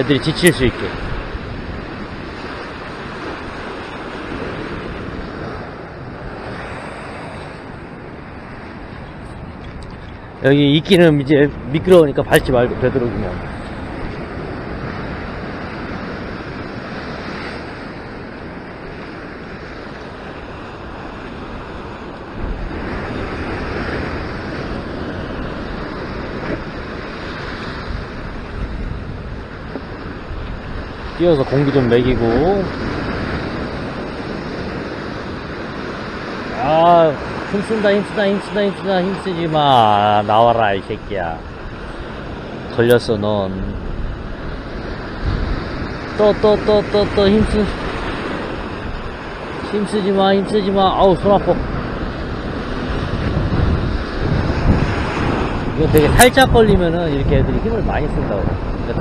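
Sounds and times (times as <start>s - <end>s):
surf washing against rocks: 0.0s - 59.0s
wind on microphone: 0.0s - 59.0s.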